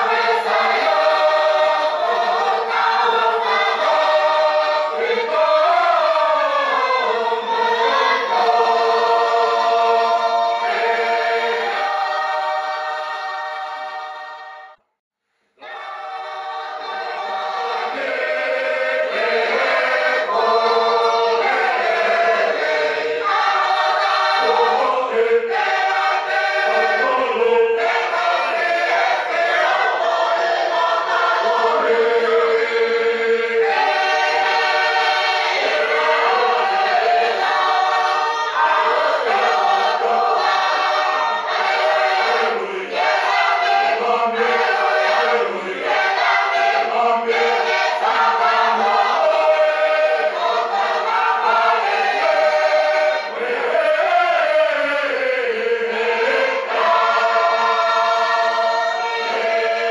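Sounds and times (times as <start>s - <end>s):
choir singing a hymn: 0.0s - 14.8s, 15.6s - 59.9s.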